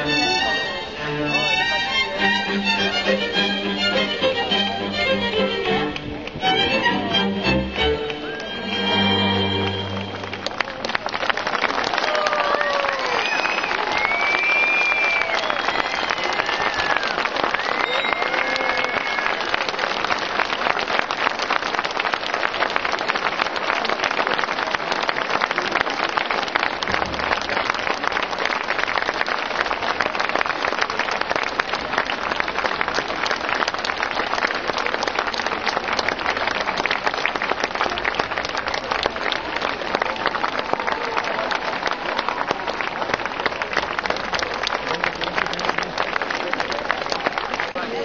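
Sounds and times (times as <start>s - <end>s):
audience applauding: 0.0s - 48.0s.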